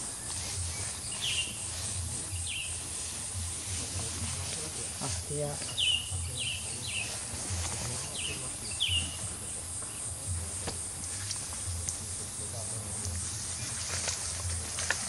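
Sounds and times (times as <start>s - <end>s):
bird chirping: 0.0s - 15.0s
insects buzzing: 0.0s - 15.0s.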